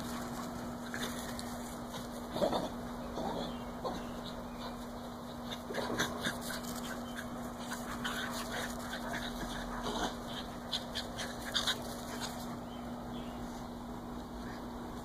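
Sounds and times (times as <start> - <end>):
small dogs playing vocalizing: 0.0 - 14.7.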